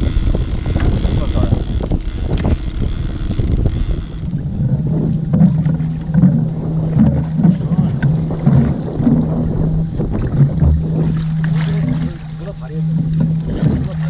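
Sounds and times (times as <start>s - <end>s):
outboard motor idling: 0.0s - 14.0s
wind on microphone: 0.0s - 14.0s.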